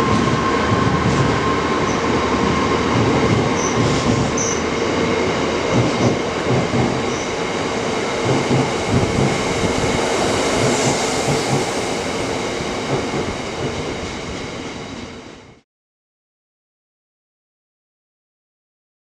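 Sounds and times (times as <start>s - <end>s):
train rumbling on rails: 0.0s - 15.6s.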